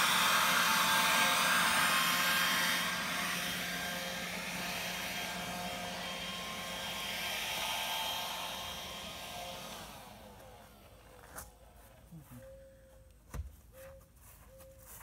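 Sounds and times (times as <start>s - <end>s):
string trimmer motor whine: 0.0s - 12.1s.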